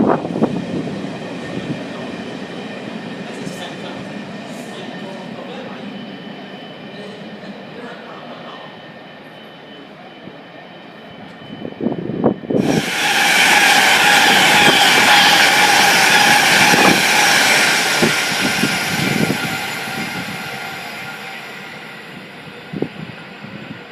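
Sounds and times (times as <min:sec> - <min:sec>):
train rushing past: 0:00.0 - 0:09.7, 0:11.5 - 0:23.9.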